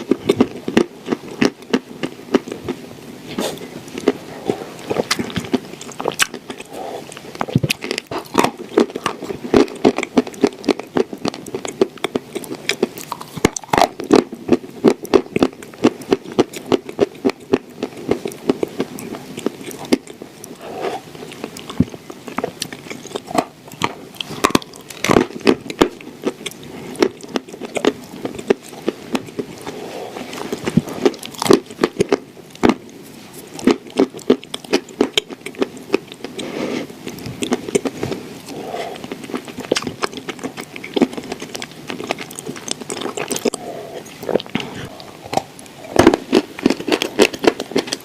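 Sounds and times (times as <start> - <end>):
soft chewing: 0.0 - 48.0.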